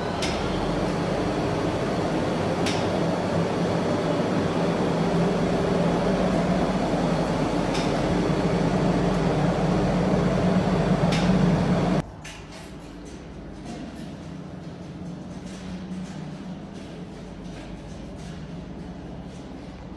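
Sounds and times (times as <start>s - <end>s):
elevator hoist motor humming: 0.0s - 19.9s.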